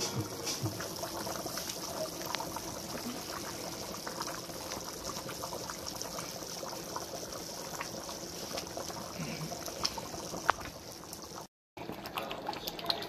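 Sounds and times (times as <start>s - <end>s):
thick soup bubbling in a pot: 0.0s - 13.0s.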